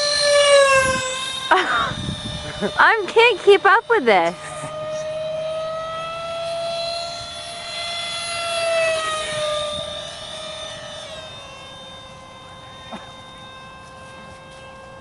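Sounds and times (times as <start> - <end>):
electric ducted fans whining: 0.0 - 15.0.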